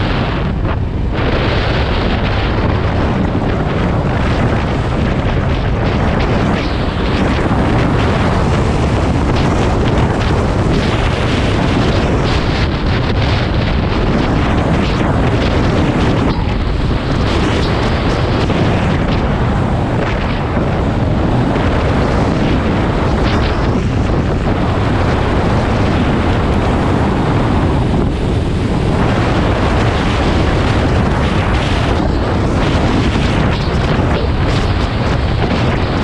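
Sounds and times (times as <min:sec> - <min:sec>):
motorcycle running: 0:00.0 - 0:36.0
wind blasting microphone: 0:00.0 - 0:36.0.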